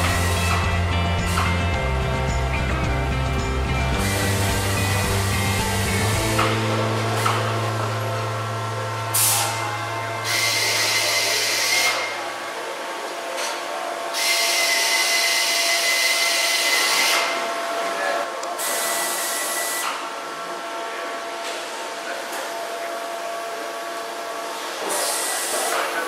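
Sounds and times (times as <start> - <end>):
workshop hum: 0.0 - 26.0.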